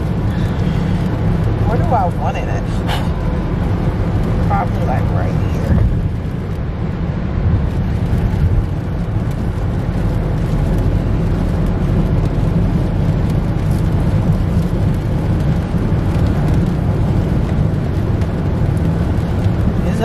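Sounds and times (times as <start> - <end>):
car cabin rumble: 0.0 - 20.0.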